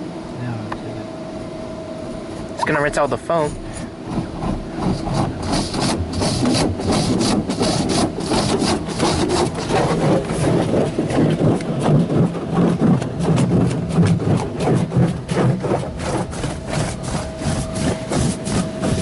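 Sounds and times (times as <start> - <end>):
low steady hum: 0.0 - 19.0
water jets spraying a car: 3.0 - 19.0.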